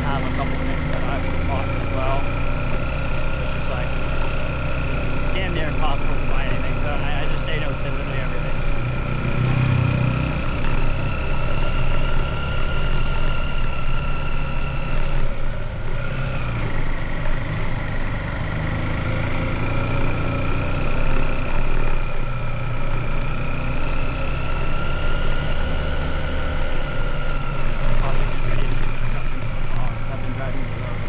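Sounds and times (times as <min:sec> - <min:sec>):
motorbike engine running: 0:00.0 - 0:31.0.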